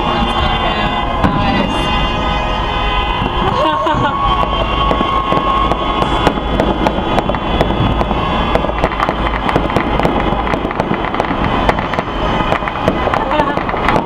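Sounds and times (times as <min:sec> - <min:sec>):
steady low rumble: 0:00.0 - 0:14.0
fireworks popping and banging: 0:00.1 - 0:14.0.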